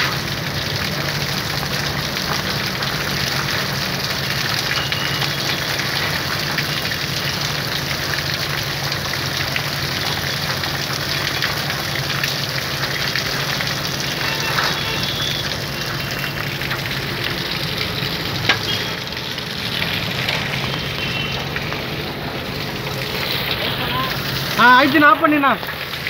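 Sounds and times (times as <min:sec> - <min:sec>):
water jet spraying on metal coil: 0:00.0 - 0:26.0.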